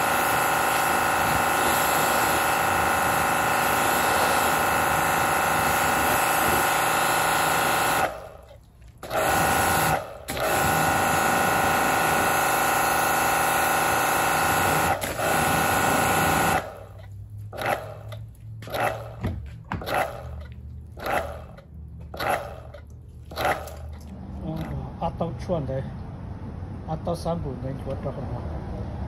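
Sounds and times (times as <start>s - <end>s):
pressure washer motor whining: 0.0s - 24.8s.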